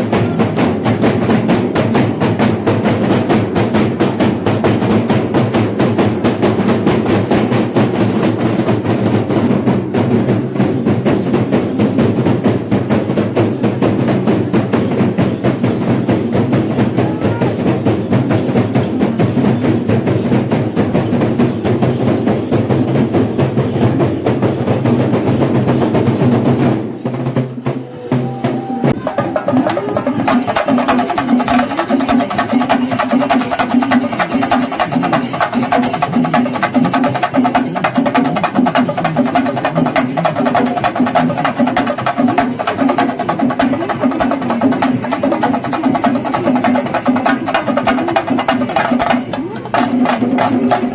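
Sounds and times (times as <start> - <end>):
cymbals: 0.0 - 50.9
drums beaten fast: 0.0 - 50.9.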